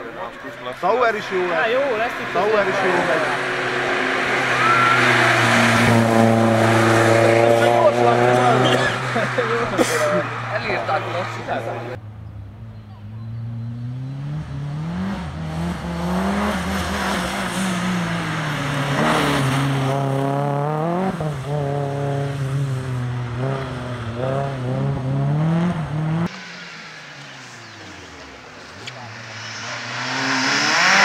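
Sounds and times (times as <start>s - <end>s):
rally car engine revving: 0.6s - 31.0s.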